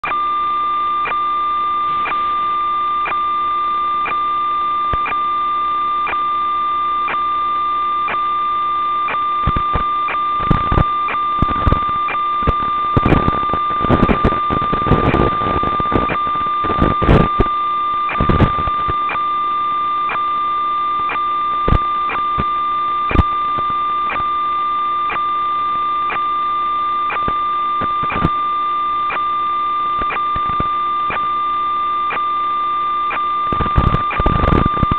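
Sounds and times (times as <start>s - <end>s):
crackle bursts: 0.0s - 34.9s
steady electronic tone: 0.0s - 34.9s.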